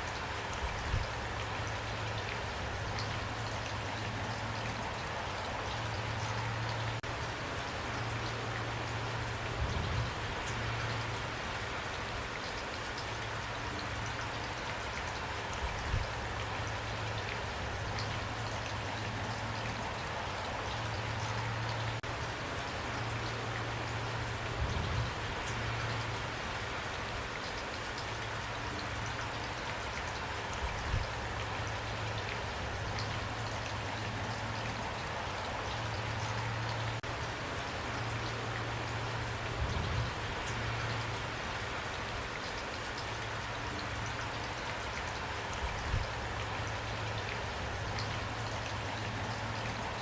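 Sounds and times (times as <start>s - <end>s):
raindrops pattering: 0.0s - 50.0s.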